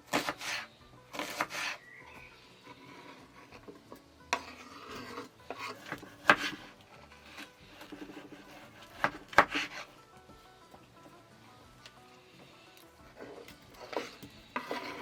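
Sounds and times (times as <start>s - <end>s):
wood scraping and rubbing: 0.0s - 15.0s.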